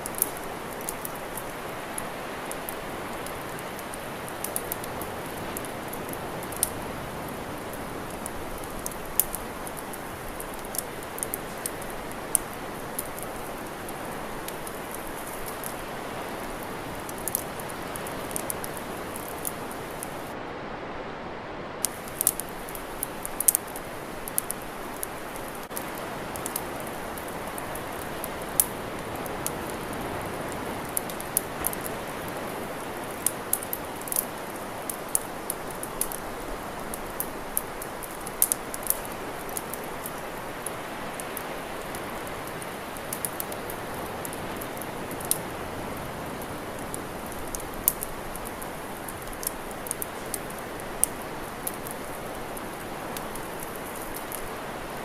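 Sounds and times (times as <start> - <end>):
campfire crackling and popping: 0.0 - 20.4, 21.8 - 55.0.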